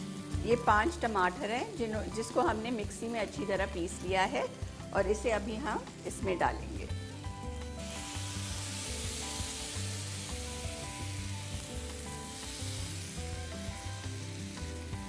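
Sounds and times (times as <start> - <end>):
tomato puree sizzling in hot oil: 0.0 - 15.0.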